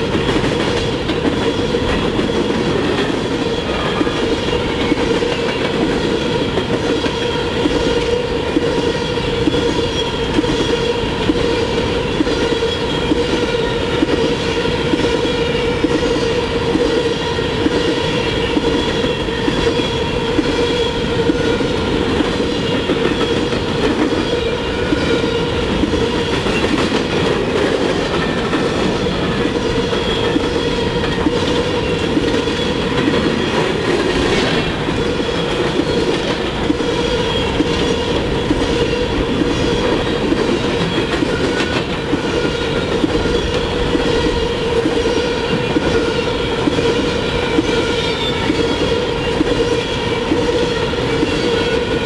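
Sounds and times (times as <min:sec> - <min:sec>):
train wheels rumbling and clattering: 0:00.0 - 0:52.0.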